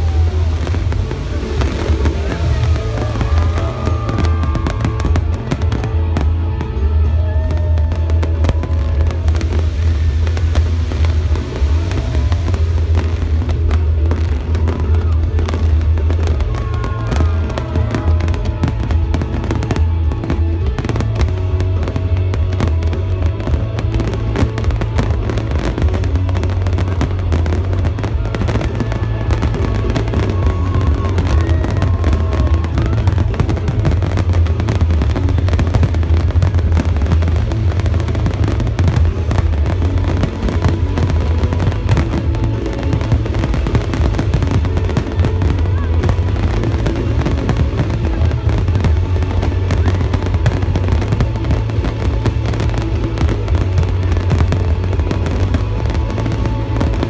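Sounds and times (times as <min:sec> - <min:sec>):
deep rumble of booms: 0:00.0 - 0:57.0
fireworks bangs and crackling: 0:00.0 - 0:57.0.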